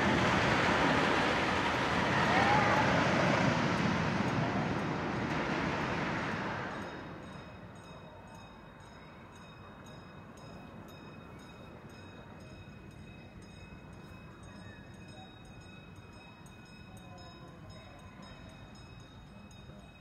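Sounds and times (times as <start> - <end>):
roller coaster rumble: 0.0 - 20.0.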